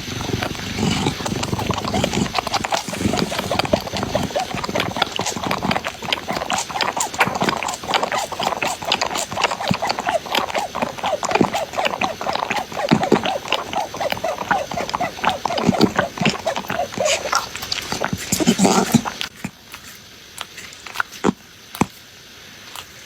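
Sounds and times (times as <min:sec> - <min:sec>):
kittens mewing: 0:00.0 - 0:19.2.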